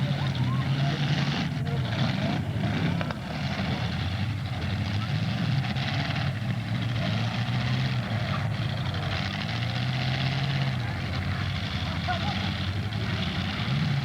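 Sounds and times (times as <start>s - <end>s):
car engines revving: 0.0s - 14.0s
crowd and track noise: 0.0s - 14.0s.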